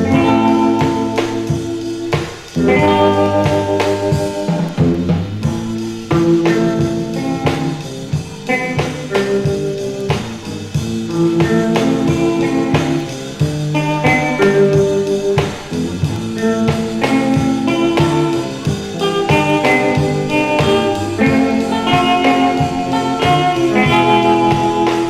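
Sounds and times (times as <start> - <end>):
drum kit beat: 0.0 - 25.0
guitar melody: 0.0 - 25.0.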